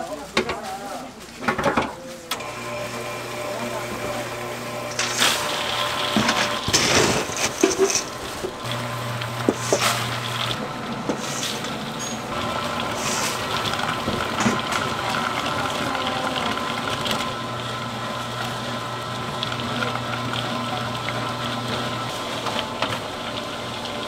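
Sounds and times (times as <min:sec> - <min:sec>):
machine hum: 0:02.3 - 0:24.0.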